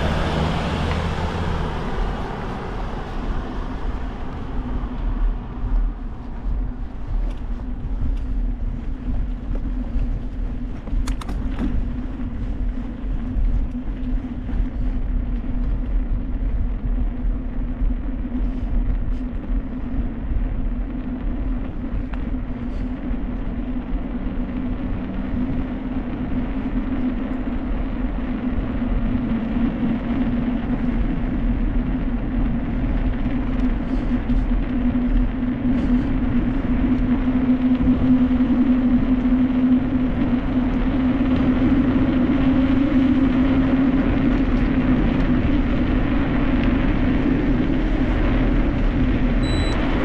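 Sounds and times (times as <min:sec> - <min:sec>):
constant low hum: 0:00.0 - 0:50.0
low rumble: 0:00.0 - 0:50.0.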